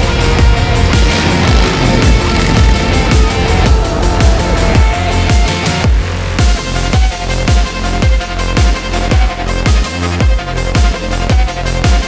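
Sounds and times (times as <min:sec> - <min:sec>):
heavy deep beat: 0:00.0 - 0:10.4
loud electronic music: 0:00.0 - 0:12.0.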